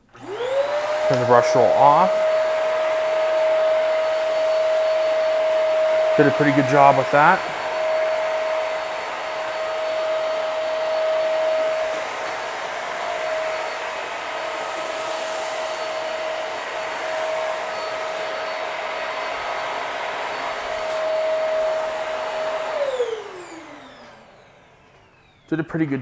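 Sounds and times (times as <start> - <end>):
vacuum motor winding down: 0.0 - 25.7
vacuum cleaner running: 0.0 - 26.0.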